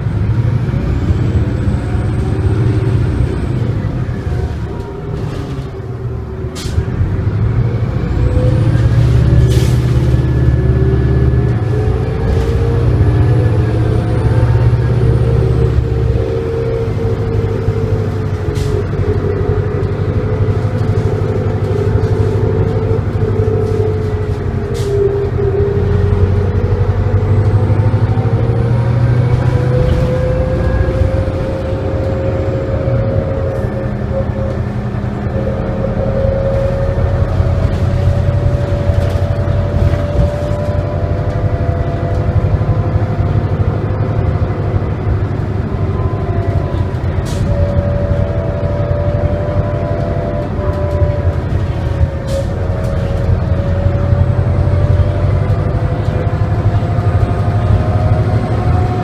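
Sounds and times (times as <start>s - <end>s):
bus engine low rumble: 0.0s - 59.0s
whine climbing in pitch: 0.2s - 59.0s.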